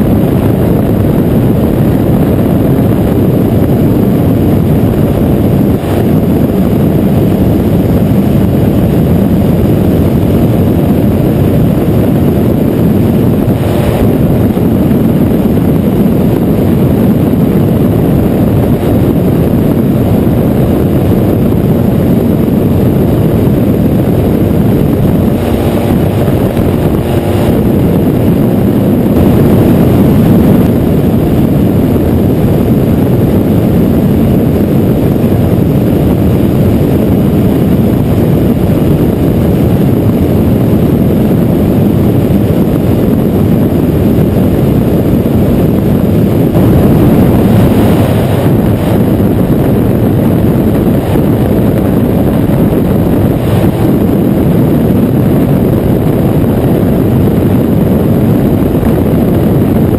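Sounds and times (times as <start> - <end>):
aircraft engine and propeller drone: 0.0 - 59.9
wind rushing over microphone: 0.0 - 59.9.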